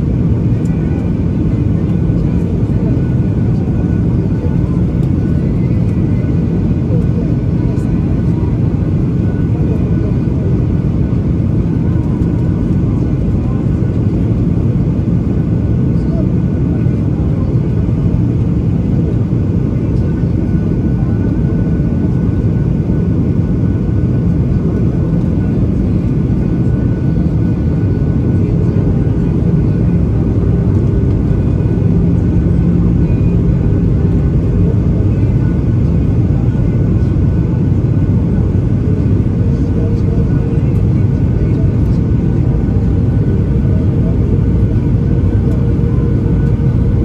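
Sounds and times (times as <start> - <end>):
airplane cabin rumble: 0.0 - 47.0
faint steady hums: 0.2 - 47.0.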